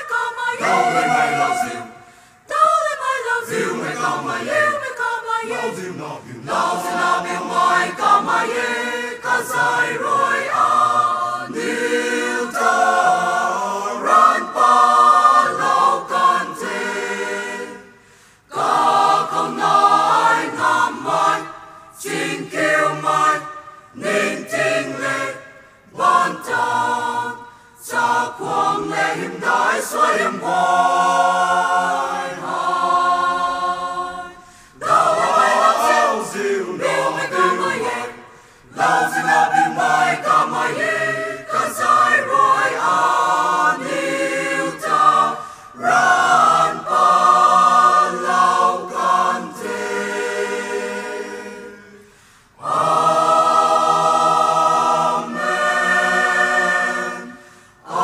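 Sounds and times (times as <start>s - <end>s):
mixed choir singing a cappella: 0.0s - 58.0s.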